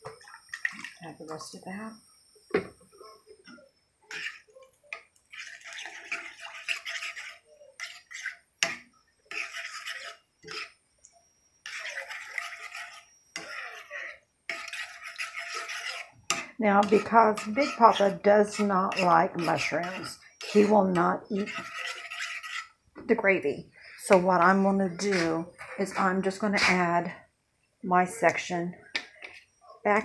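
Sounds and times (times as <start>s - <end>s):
metal spoon scraping a skillet: 4.1s - 10.8s, 11.6s - 27.2s, 28.1s - 30.0s.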